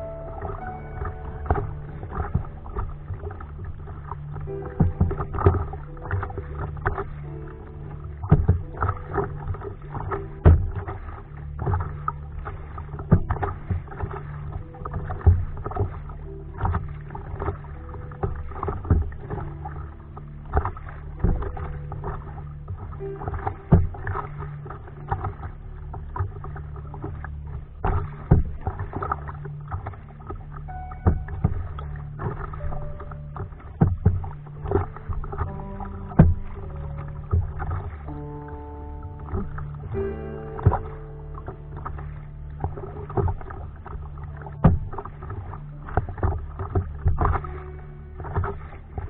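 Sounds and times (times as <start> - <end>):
steady low hum: 0.0 - 49.0
water splashing against hull: 0.0 - 49.0.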